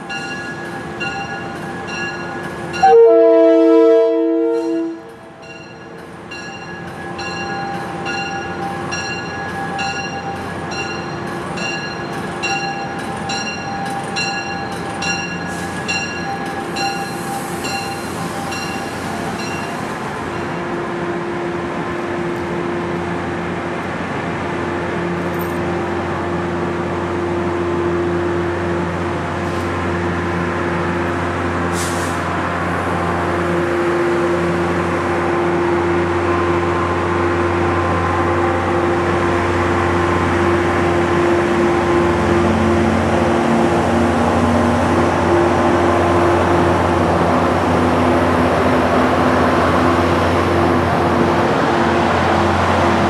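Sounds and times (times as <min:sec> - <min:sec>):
diesel locomotive hum: 0:00.0 - 0:53.0
train wheels on rails: 0:00.0 - 0:53.0.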